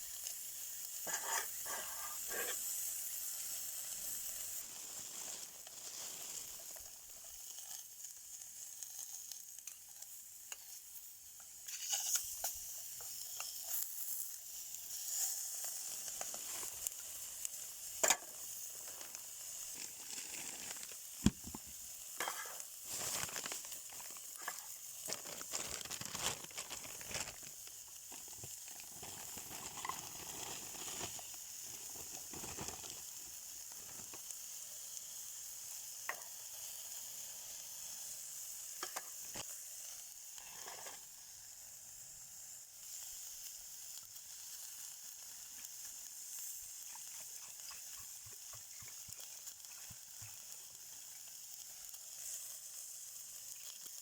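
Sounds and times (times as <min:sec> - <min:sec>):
meat sizzling on a grill: 0:00.0 - 0:54.0.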